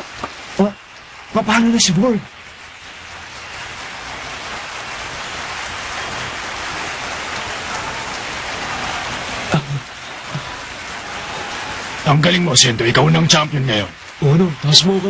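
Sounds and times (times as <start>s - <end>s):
arena crowd cheering: 0.0s - 15.0s.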